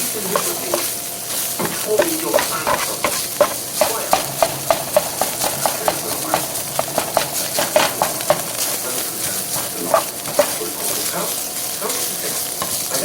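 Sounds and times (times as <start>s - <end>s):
food sizzling in a frying pan: 0.0s - 13.0s
utensil scraping a pan: 0.0s - 13.0s.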